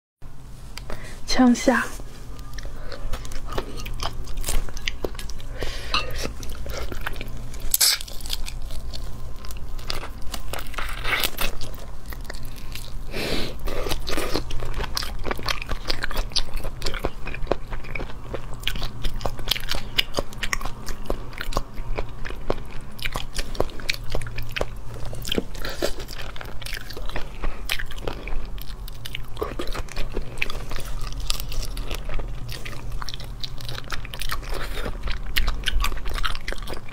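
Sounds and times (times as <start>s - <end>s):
chewing: 2.3s - 36.9s.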